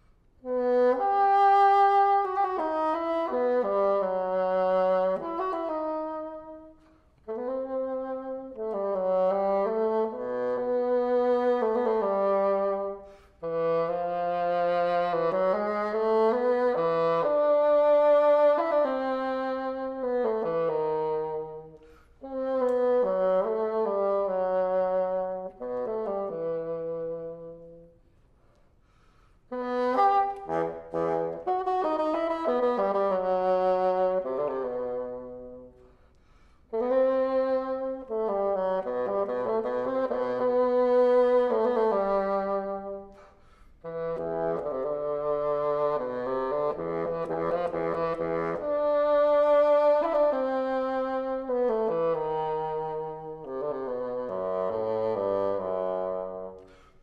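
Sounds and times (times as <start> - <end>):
solo bassoon melody: 0.0 - 57.0.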